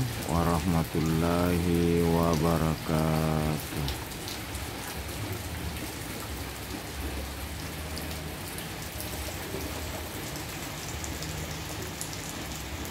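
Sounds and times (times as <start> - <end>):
rain falling: 0.0 - 12.9
raindrops ticking: 0.0 - 12.9.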